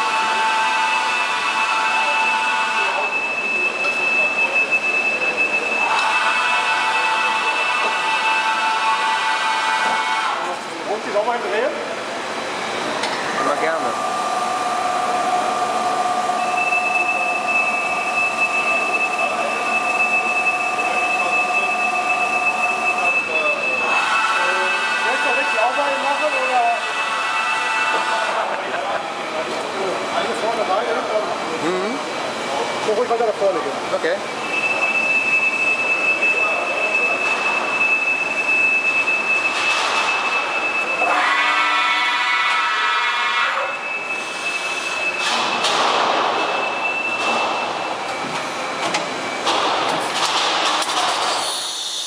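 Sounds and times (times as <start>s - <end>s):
milling machine running: 0.0s - 43.3s
machine whining tones: 0.0s - 52.0s.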